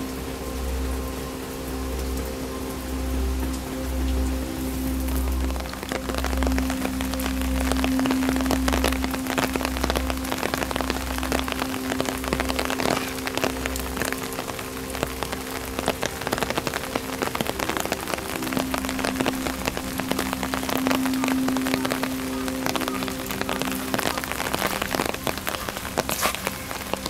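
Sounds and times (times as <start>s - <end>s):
rain downpour hiss: 0.0s - 27.0s
rain drops ticking: 0.0s - 27.0s.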